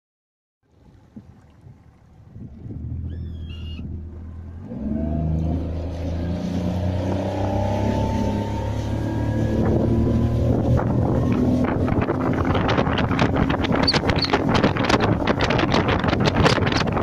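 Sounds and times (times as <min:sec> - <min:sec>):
outboard engine: 0:00.6 - 0:17.0
wind on microphone: 0:00.8 - 0:17.0.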